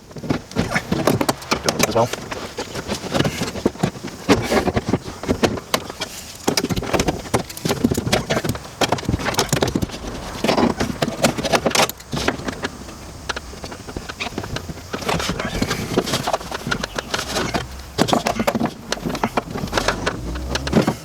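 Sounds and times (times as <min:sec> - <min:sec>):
hand roller clattering on sheet: 0:00.0 - 0:21.0.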